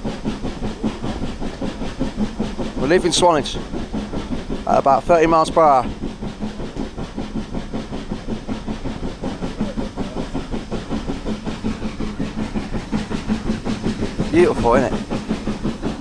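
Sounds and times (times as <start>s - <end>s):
steam train hiss and rumble: 0.0s - 16.0s.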